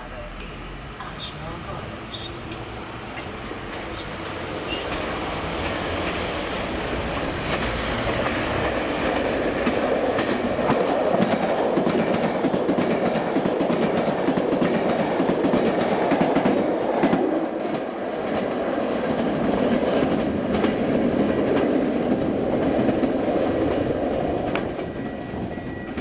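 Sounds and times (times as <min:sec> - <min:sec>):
electric train running past: 0:00.0 - 0:26.0.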